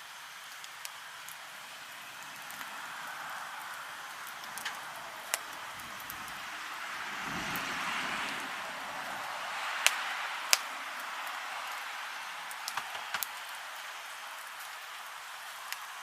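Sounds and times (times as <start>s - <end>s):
campfire crackling: 0.0s - 16.0s
fire popping: 0.0s - 16.0s.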